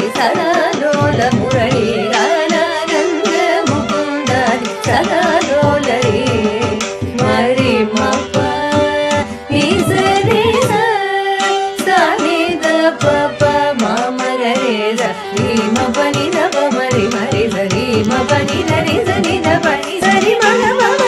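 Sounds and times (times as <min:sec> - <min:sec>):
hand drum strokes: 0:00.0 - 0:21.0
violin melody: 0:00.0 - 0:21.0
woman singing: 0:00.0 - 0:21.0.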